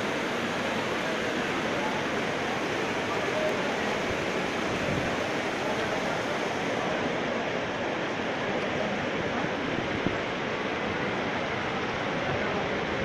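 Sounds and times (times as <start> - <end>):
heavy rain on pavement and foliage: 0.0 - 13.0.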